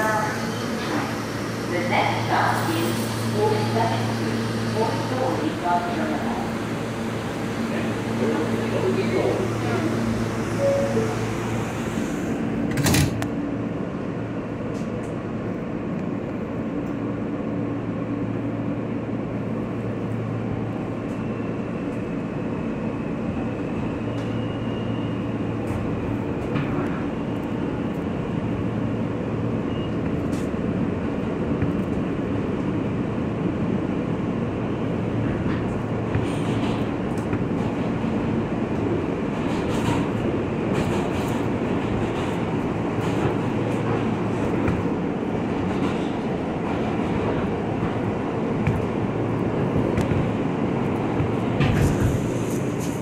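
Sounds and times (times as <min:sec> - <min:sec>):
subway train rumbling: 0:00.0 - 0:53.0.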